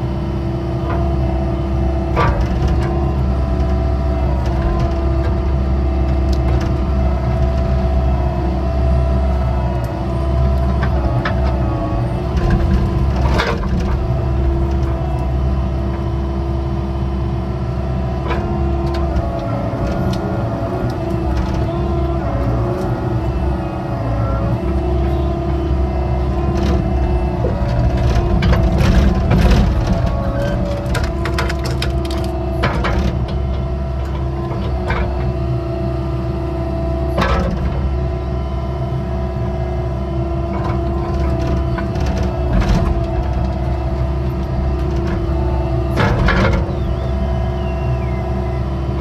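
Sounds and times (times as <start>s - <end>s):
excavator running: 0.0s - 49.0s.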